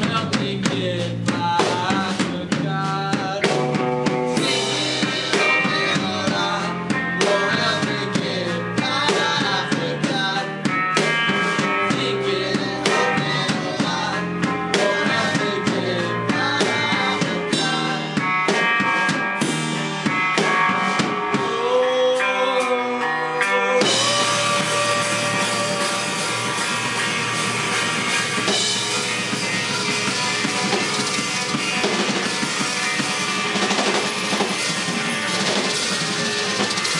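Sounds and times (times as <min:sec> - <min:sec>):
bass guitar: 0:00.0 - 0:36.9
drum kit: 0:00.0 - 0:36.9
electric guitars: 0:00.0 - 0:36.9.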